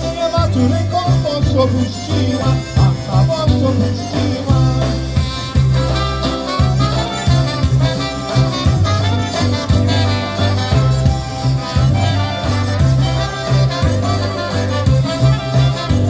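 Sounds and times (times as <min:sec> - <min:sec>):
polka band playing: 0:00.0 - 0:16.0
steady bass line: 0:00.0 - 0:16.0
wind instruments: 0:01.2 - 0:16.0.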